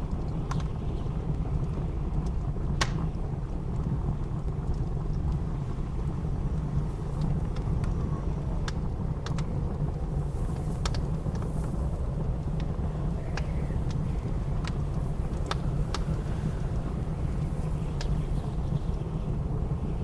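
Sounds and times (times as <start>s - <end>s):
blizzard wind rumbling: 0.0s - 20.0s
wood fire crackling: 0.0s - 20.0s.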